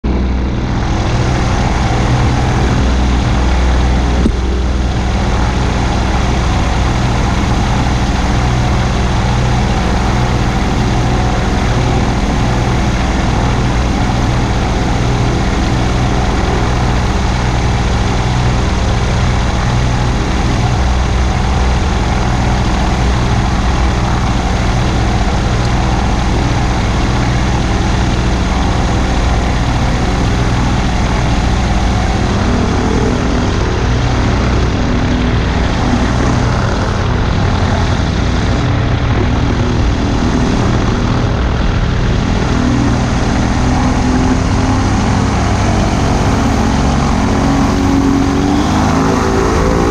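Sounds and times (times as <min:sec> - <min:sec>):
engine and propeller idling: 0:00.0 - 0:49.9.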